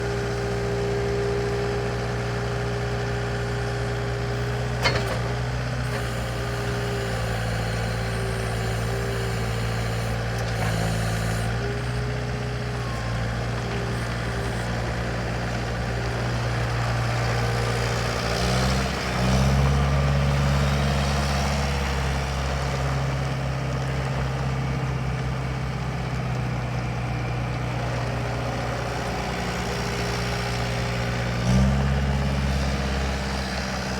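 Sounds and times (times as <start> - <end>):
loader diesel engine running: 0.0 - 33.9.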